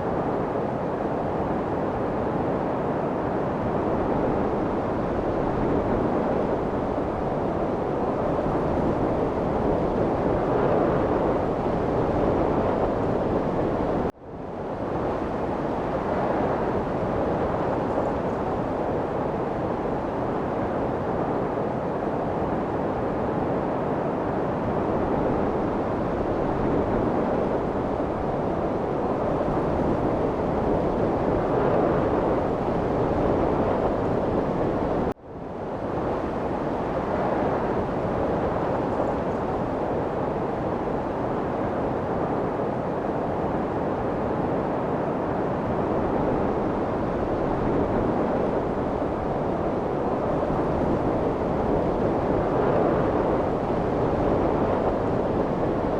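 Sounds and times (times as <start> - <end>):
light wind blowing: 0.0 - 55.9.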